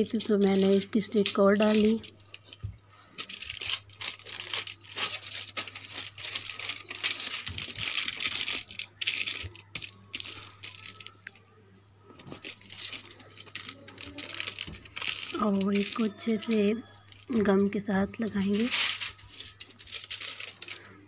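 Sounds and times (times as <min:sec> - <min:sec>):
aluminium foil crinkling: 0:00.0 - 0:11.4, 0:12.1 - 0:21.0.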